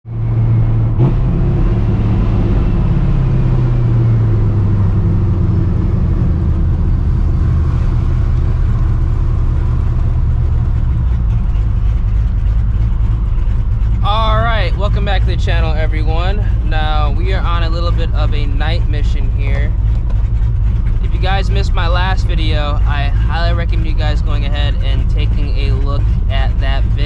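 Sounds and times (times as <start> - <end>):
deep engine exhaust drone: 0.0 - 27.0.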